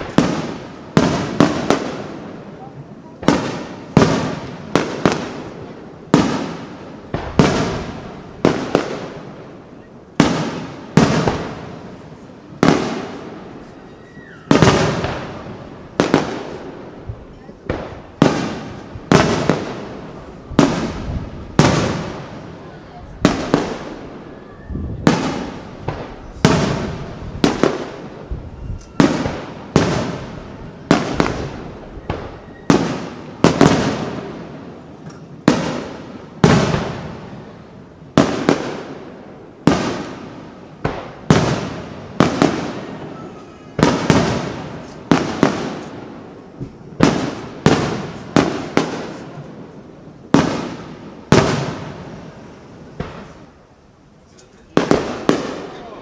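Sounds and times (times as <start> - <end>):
firework booms with echo: 0.0 - 53.6, 54.7 - 56.0.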